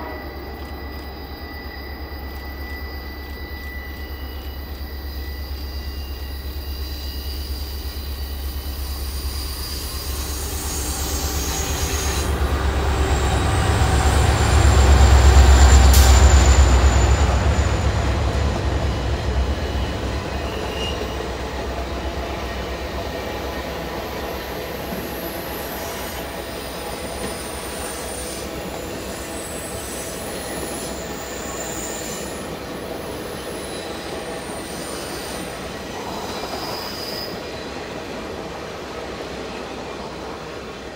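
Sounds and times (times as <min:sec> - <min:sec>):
diesel locomotive engine rumble: 0:00.0 - 0:36.7
train wheels squealing: 0:00.0 - 0:40.9.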